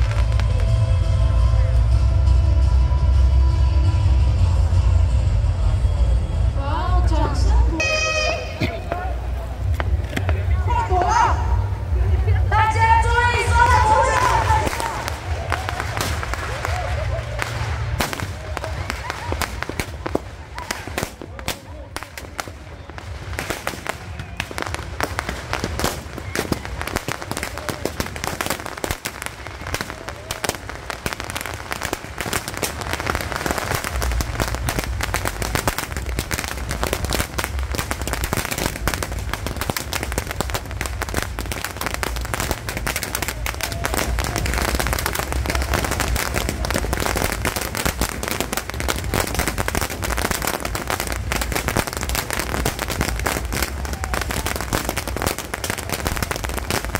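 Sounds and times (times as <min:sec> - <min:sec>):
fireworks crackling bangs: 0:00.0 - 0:02.7, 0:07.8 - 0:56.9.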